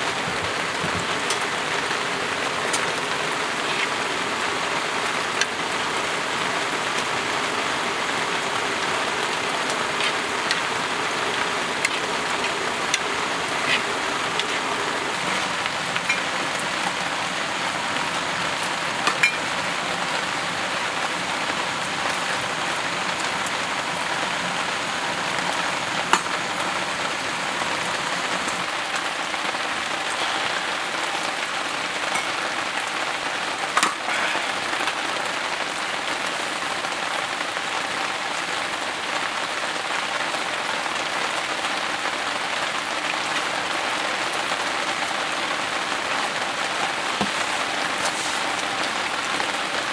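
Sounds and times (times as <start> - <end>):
steady rain patter: 0.0 - 49.9.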